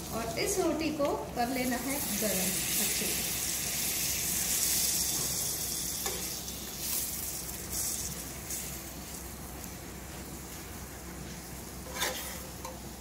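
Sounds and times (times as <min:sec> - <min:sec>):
butter and oil sizzling: 0:00.0 - 0:13.0.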